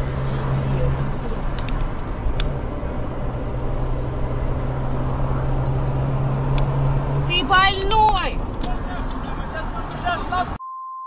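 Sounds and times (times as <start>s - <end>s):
car cabin road noise: 0.0s - 10.6s
low engine hum: 0.0s - 10.6s.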